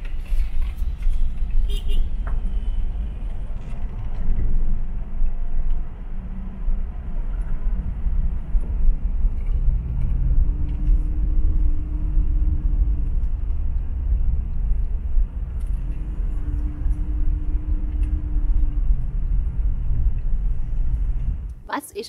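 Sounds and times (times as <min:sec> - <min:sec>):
moving vehicle rumble: 0:00.0 - 0:22.0
faint steady drone: 0:02.2 - 0:21.8.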